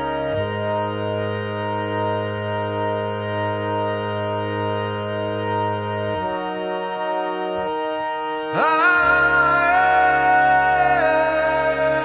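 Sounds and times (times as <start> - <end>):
high sliding melody line: 0.0 - 12.0
sustained music chords: 0.0 - 12.0.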